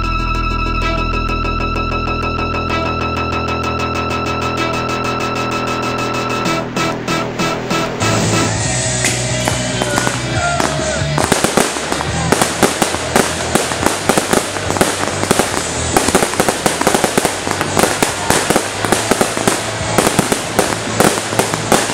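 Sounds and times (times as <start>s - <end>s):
music: 0.0s - 21.9s
fireworks bangs and crackling: 2.0s - 21.9s.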